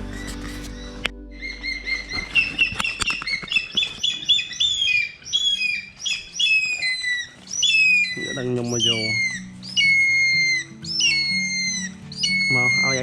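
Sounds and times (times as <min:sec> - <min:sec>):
bird calling in high notes: 0:00.2 - 0:13.0.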